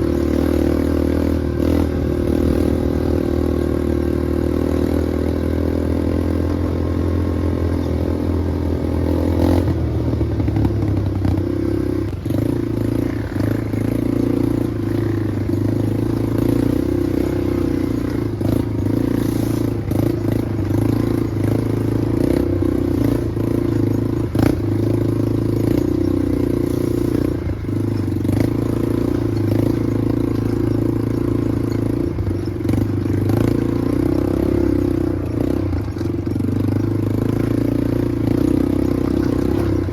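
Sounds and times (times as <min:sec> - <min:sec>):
small vehicle engine running: 0:00.0 - 0:39.9.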